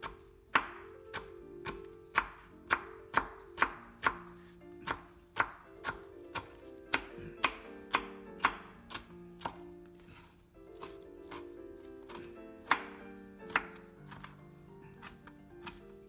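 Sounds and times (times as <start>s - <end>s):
knife chopping on wooden board: 0.0s - 15.9s
quiet background music: 0.0s - 16.0s.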